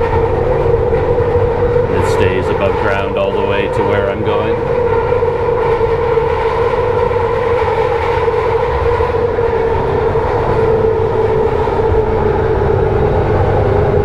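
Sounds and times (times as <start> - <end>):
constant hum: 0.0 - 14.0
train rumble: 0.0 - 14.0.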